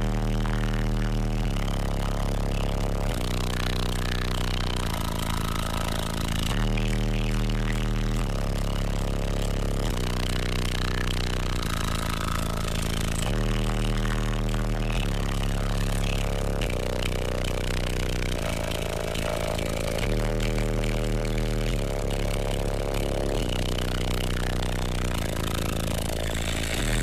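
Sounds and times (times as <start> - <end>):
loud bass-heavy music: 0.0 - 27.0.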